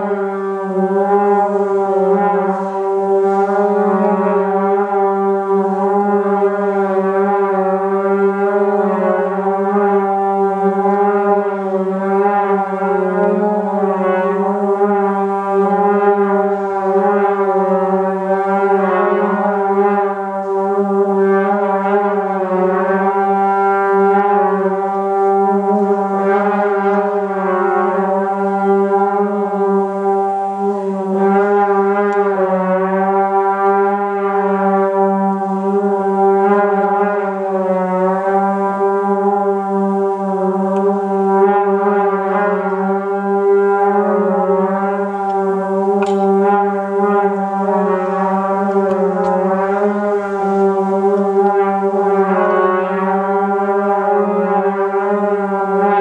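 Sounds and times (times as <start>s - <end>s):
trombones playing sustained notes: 0.0s - 56.0s.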